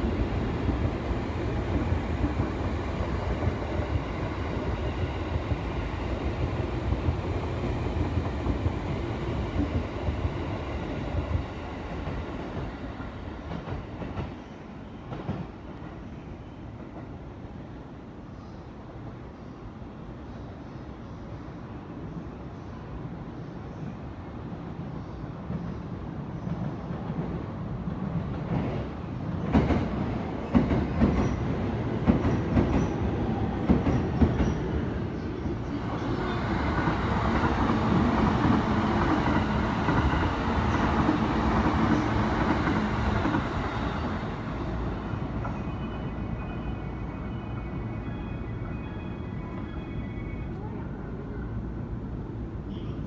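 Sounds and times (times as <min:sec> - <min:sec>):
train rumble: 0:00.0 - 0:16.1, 0:24.4 - 0:53.0.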